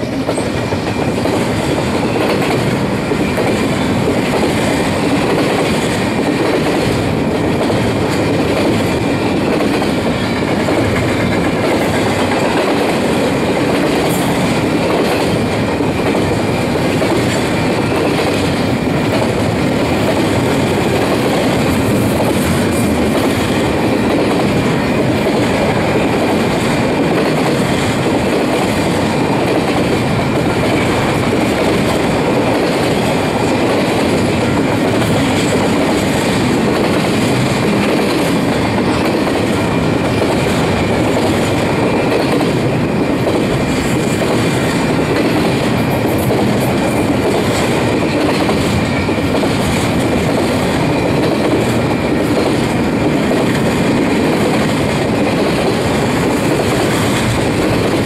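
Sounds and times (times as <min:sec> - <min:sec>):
freight train wheels on rail: 0:00.0 - 0:58.0.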